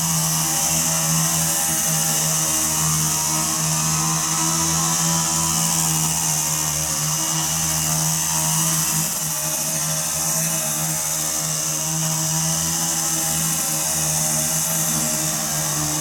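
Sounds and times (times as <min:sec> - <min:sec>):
weed eater engine running: 0:00.0 - 0:16.0.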